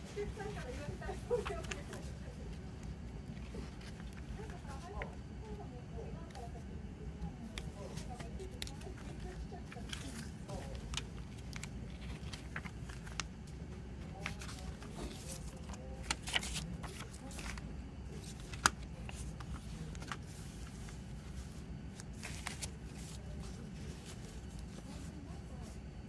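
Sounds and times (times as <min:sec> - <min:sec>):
paper rustling: 0:00.0 - 0:05.2, 0:07.4 - 0:25.8
steady low hum: 0:00.0 - 0:26.0.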